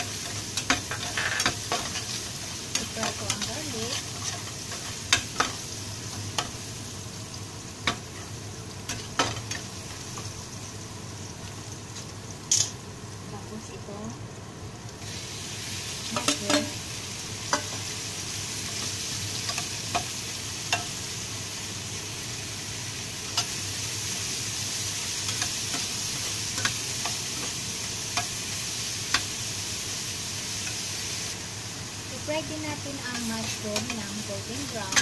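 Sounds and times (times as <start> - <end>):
mushrooms sizzling in a frying pan: 0.0 - 35.0.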